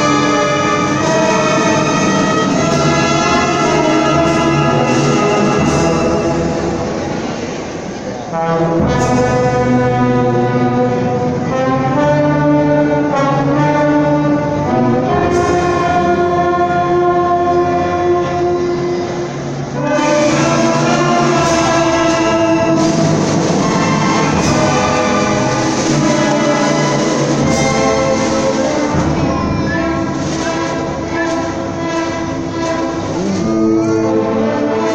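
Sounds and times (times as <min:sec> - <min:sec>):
brass playing: 0:00.0 - 0:34.9
orchestra playing held chords: 0:00.0 - 0:34.9.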